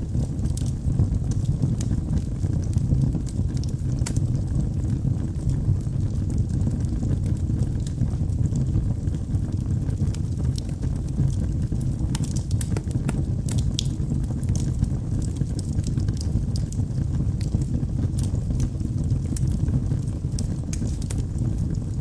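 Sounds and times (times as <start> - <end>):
flames rumbling: 0.0 - 22.0
logs crackling and popping: 0.0 - 22.0.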